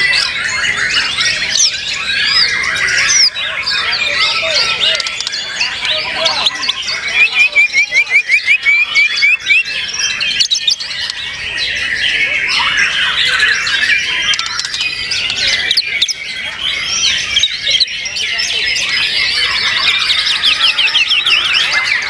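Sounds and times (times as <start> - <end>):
birds singing and chattering: 0.0 - 22.0.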